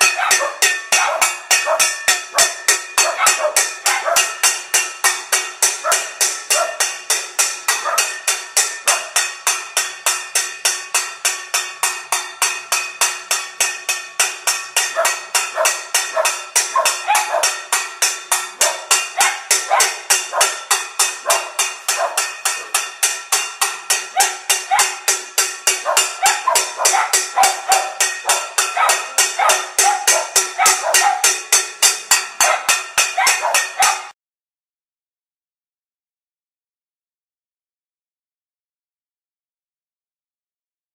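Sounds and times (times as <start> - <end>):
metal pan struck rhythmically: 0.0 - 34.2.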